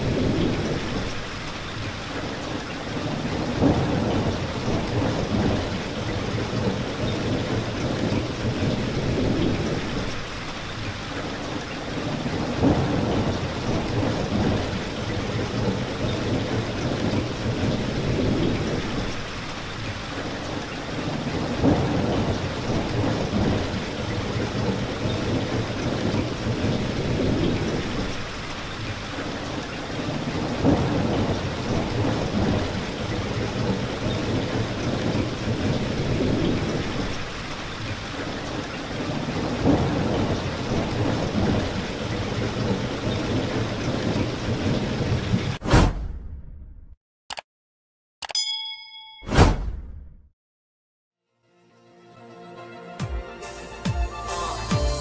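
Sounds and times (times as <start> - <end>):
steady rain: 0.0 - 45.6, 54.3 - 55.0
low rolling thunder: 0.0 - 46.7.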